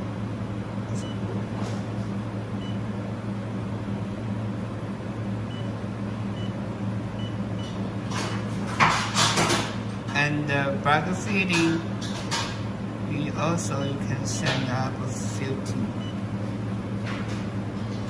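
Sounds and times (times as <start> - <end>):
laser welding machine humming: 0.0 - 18.0.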